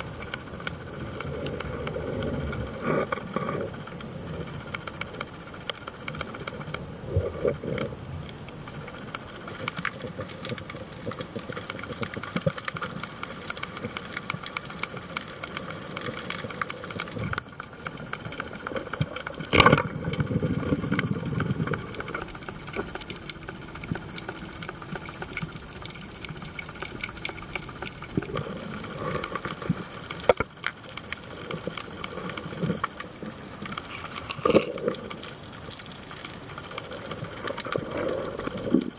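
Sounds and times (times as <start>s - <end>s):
low churning water: 0.0s - 38.9s
snapping shrimp crackling underwater: 0.0s - 38.9s.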